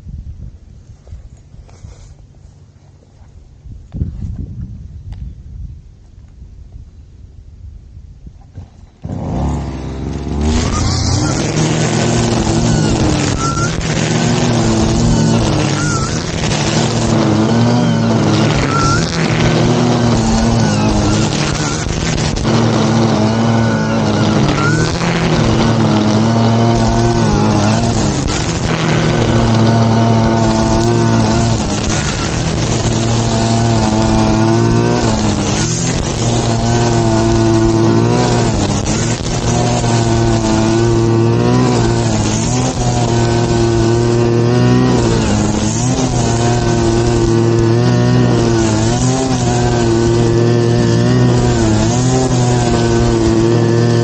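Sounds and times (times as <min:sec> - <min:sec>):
grass cutter engine running: 0:08.5 - 0:54.0.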